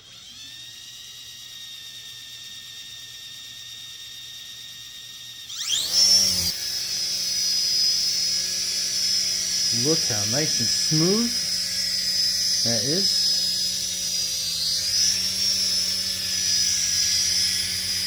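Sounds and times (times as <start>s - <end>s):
toy helicopter rotor motors whirring: 0.0s - 18.0s.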